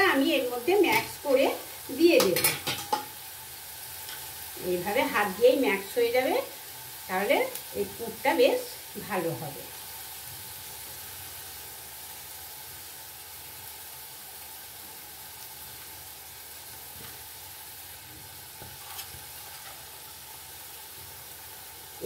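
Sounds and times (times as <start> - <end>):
paste sizzling in a wok: 0.0 - 22.0.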